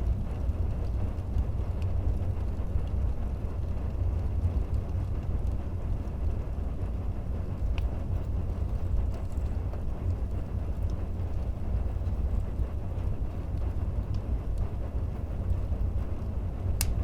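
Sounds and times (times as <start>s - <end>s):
fire crackles: 0.0s - 17.0s
fire rumbling in fireplace: 0.0s - 17.0s.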